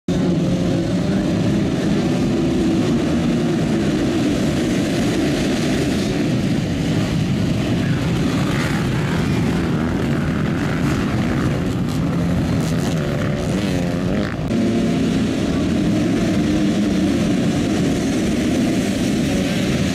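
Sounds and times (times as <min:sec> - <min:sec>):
motocross bikes revving and accelerating: 0:00.1 - 0:19.9.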